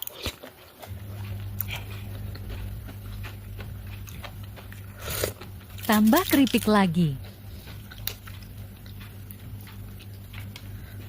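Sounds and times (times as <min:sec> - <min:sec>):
low electrical hum: 0:00.0 - 0:11.0
person chewing food: 0:00.0 - 0:11.0.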